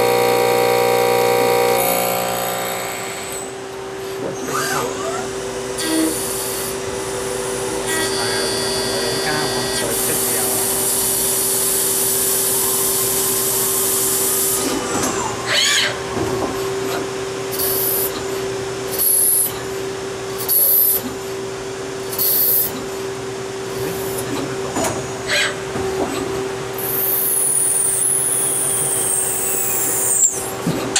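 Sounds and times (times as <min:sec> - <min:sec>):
machine hum: 0:00.0 - 0:30.9.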